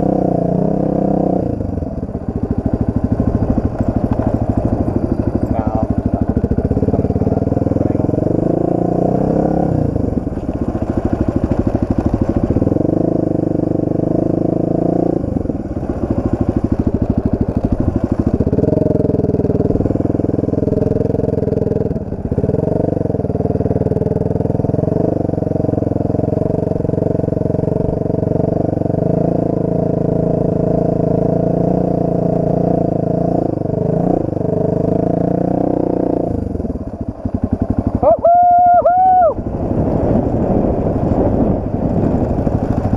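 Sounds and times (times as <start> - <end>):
dirt bike engine: 0.0 - 42.9.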